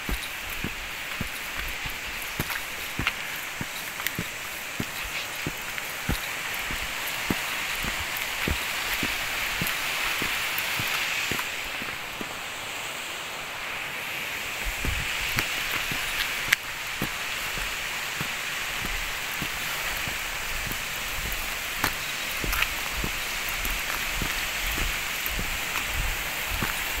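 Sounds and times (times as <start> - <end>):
footsteps on a path: 0.0 - 12.6, 14.1 - 27.0
rushing water hiss: 0.0 - 27.0.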